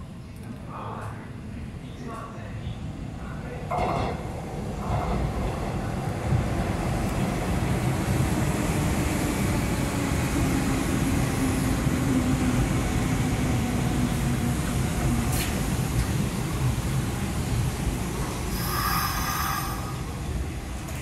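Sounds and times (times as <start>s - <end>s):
low train whine: 1.0s - 21.0s
train wheels rumbling on rails: 3.7s - 21.0s.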